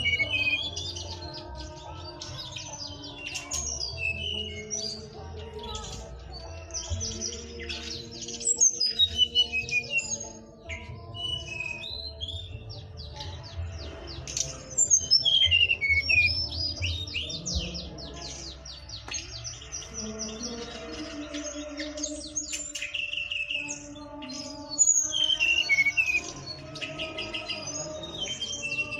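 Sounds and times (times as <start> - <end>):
songbird singing: 0.0 - 28.9.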